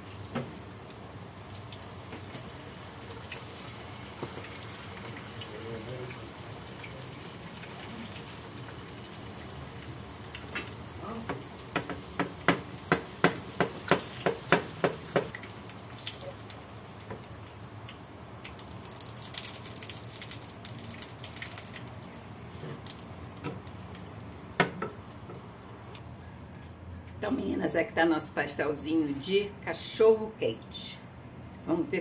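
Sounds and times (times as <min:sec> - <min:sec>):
food deep-frying in oil: 0:00.0 - 0:26.0.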